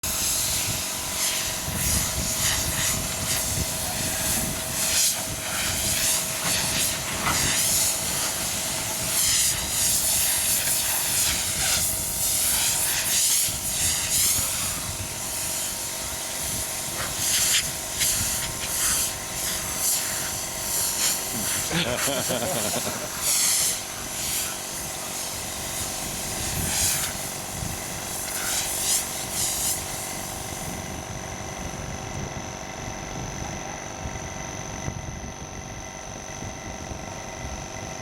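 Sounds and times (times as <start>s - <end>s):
steady machine hum: 0.0s - 38.0s
spray gun air hiss: 0.1s - 30.9s.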